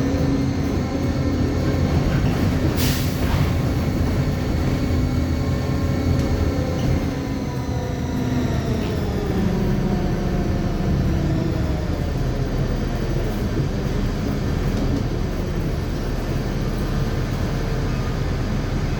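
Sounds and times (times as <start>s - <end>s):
bus differential whine: 0.0s - 18.9s
bus running: 0.0s - 18.9s
road noise: 0.0s - 18.9s.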